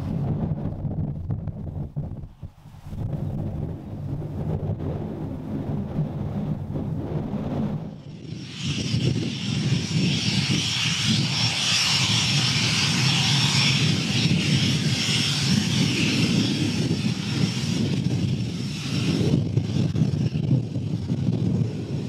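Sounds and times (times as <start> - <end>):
low rumble: 0.0 - 22.0
jet engines whining: 3.0 - 22.0.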